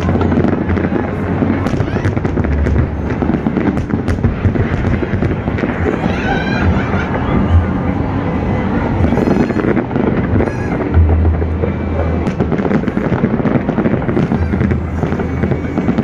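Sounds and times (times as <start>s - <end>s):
deep firework booms: 0.0s - 8.1s, 8.8s - 16.0s
fireworks crackling and popping: 0.0s - 16.0s.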